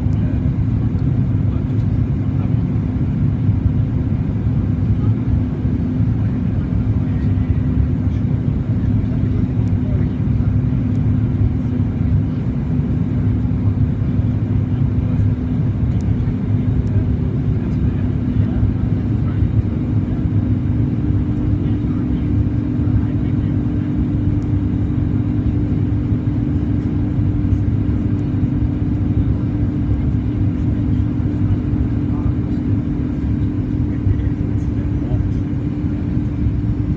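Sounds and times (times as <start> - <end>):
aircraft cabin engine rumble: 0.0 - 36.9.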